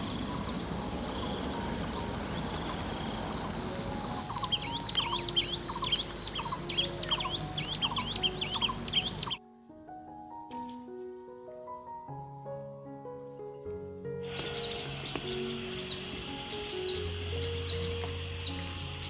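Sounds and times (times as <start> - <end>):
insect chorus: 0.0 - 10.1, 13.4 - 19.0.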